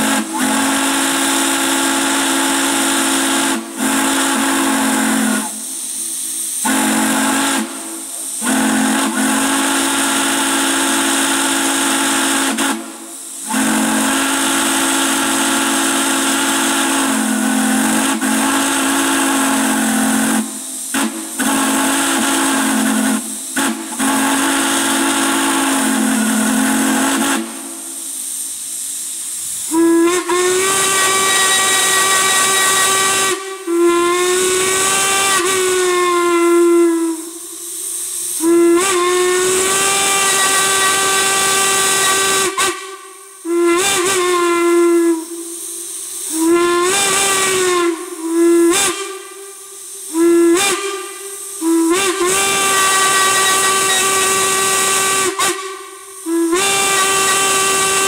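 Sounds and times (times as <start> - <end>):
steam whistle blowing chord: 0.0 - 28.1, 29.7 - 37.7, 38.3 - 58.0
steam hissing: 0.0 - 58.0.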